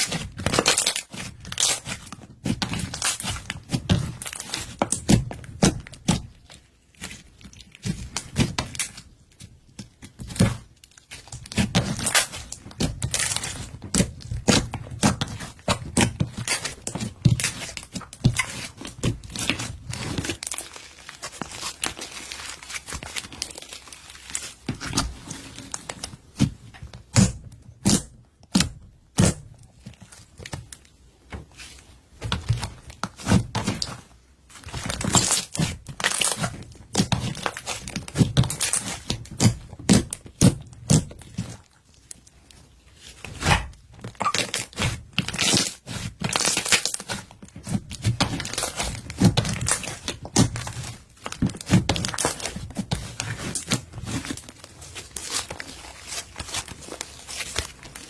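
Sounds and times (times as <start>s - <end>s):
slime crackling and popping: 0.0s - 26.1s, 34.6s - 42.2s, 43.3s - 58.0s.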